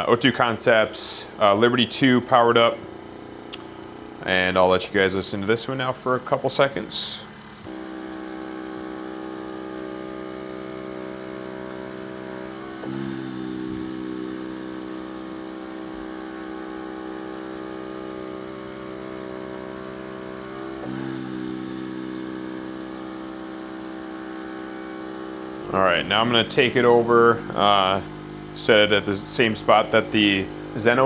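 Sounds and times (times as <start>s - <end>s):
oxygen concentrator humming: 0.0s - 31.0s.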